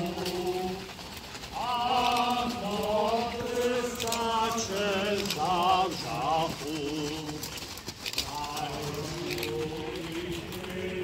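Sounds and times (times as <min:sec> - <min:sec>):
men singing a hymn: 0:00.0 - 0:11.0.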